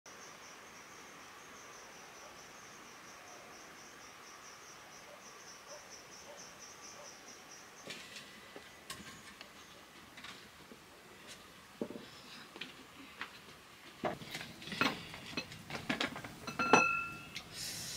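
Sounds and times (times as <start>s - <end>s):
insects chirping faintly: 0.1s - 17.9s.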